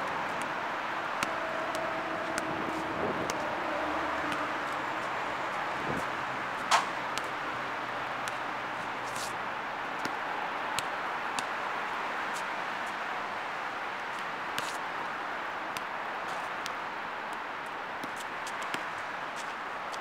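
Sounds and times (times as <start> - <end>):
distant traffic: 0.0 - 20.0
wind: 0.0 - 20.0.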